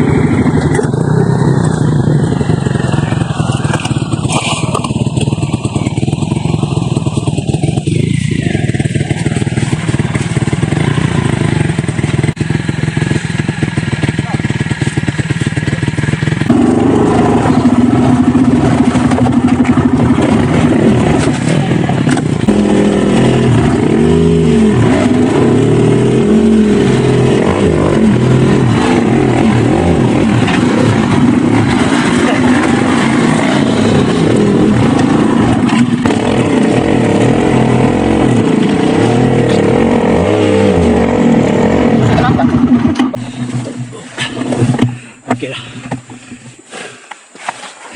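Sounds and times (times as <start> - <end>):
dirt bike engine revving: 0.0 - 46.3.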